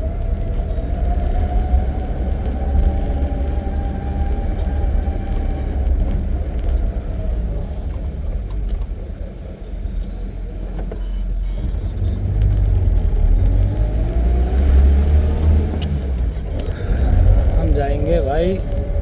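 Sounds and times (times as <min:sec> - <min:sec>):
vehicle engine driving: 0:00.0 - 0:19.0.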